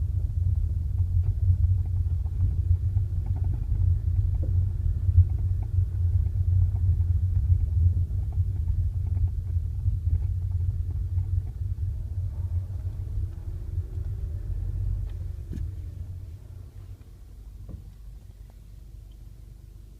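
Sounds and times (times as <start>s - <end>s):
road and suspension rumble: 0.0s - 19.9s.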